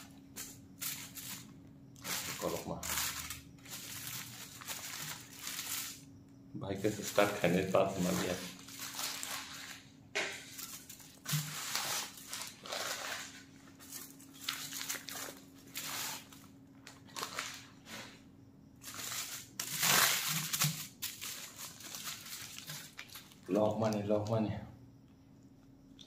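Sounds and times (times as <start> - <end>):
foil and paper crinkling: 0.0 - 6.1, 6.7 - 9.9, 10.5 - 18.2, 18.8 - 24.4.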